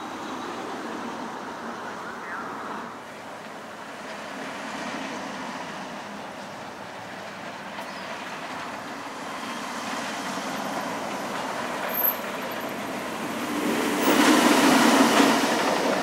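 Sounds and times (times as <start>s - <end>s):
roller coaster rumbling on track: 0.0s - 16.0s.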